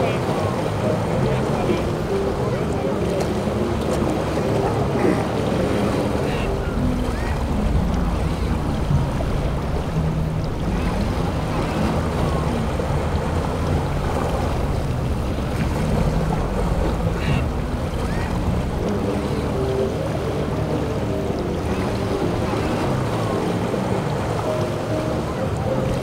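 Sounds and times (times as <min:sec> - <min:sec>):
boat engines running: 0:00.0 - 0:26.0
waves: 0:00.0 - 0:26.0
wind buffeting microphone: 0:00.0 - 0:26.0.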